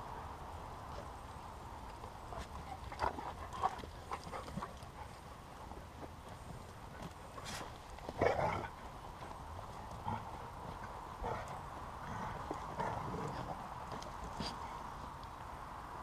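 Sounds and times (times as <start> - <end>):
dogs digging in loose dirt: 0.9 - 15.7.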